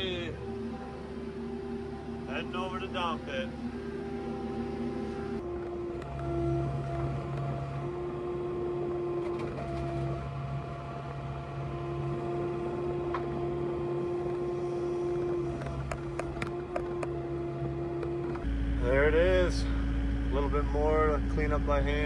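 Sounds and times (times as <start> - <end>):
diesel engine running: 0.0 - 22.0
steady whine: 0.0 - 22.0.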